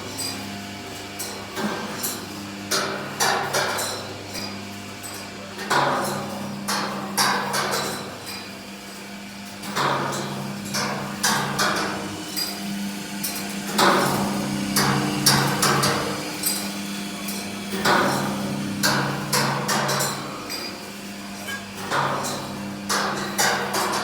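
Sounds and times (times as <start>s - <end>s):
low machine hum: 3.8s - 24.0s.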